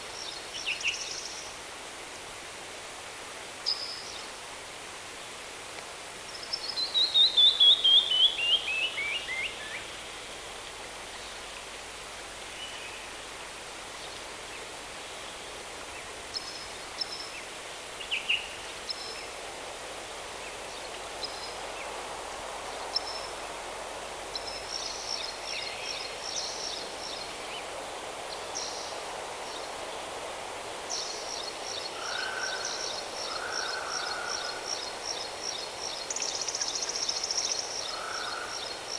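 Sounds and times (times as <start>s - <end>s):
background hiss: 0.0s - 38.9s.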